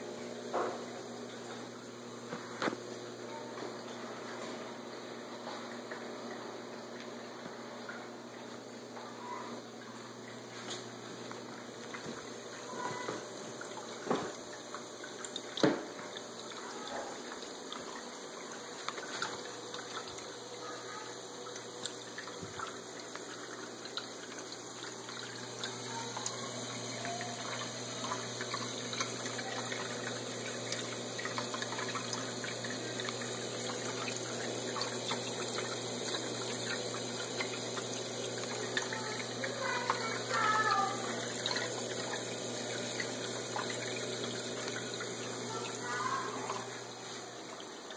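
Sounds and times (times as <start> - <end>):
water splashing into tank: 0.0 - 47.9.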